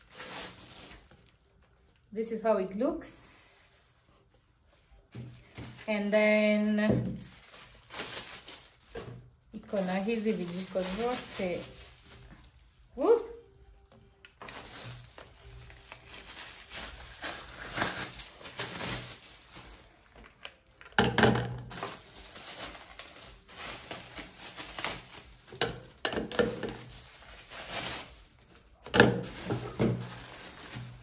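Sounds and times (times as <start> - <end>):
plastic wrapping crinkling: 0.0 - 2.1, 4.8 - 31.0.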